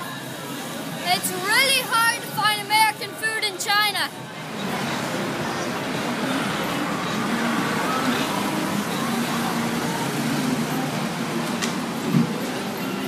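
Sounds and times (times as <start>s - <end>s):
city traffic noise: 0.0s - 13.0s
distant voices: 0.3s - 13.0s.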